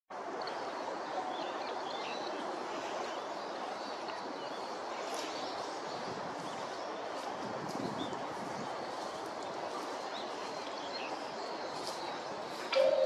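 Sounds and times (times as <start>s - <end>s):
outdoor background noise: 0.1s - 13.0s.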